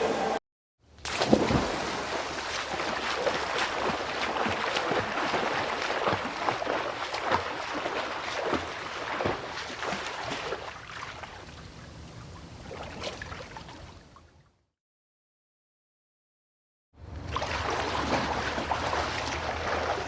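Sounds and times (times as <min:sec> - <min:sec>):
water splashing: 0:01.0 - 0:14.2, 0:17.1 - 0:20.0.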